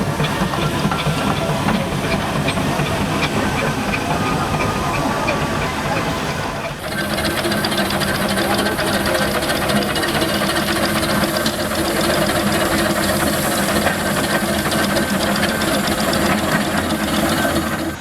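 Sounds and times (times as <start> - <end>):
engine running with mechanical clatter: 0.0 - 18.0.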